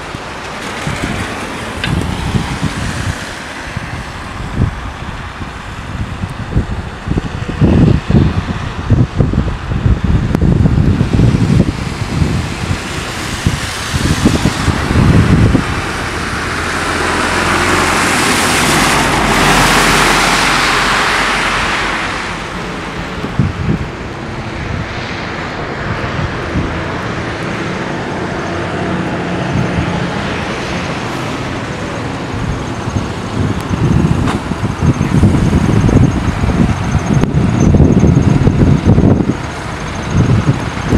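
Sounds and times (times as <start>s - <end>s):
traffic hum: 0.0s - 40.9s
wind buffeting microphone: 0.0s - 40.9s.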